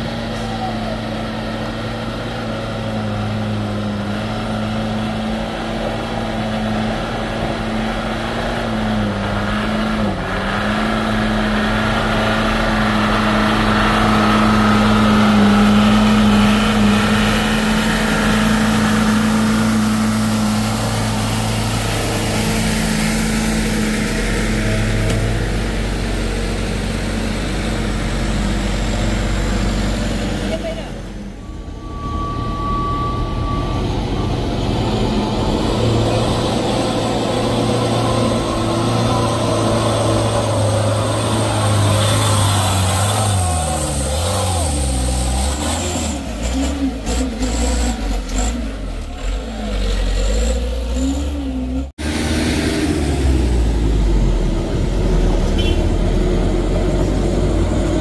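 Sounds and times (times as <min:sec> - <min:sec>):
diesel truck engine labouring: 0:00.0 - 0:58.0.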